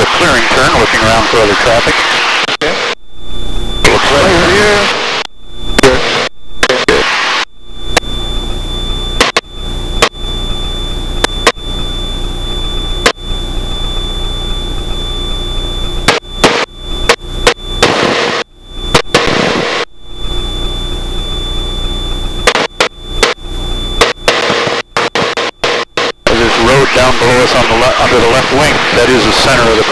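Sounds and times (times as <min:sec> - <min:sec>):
faint high whine: 0:00.0 - 0:29.9
propeller engine droning: 0:00.0 - 0:29.9.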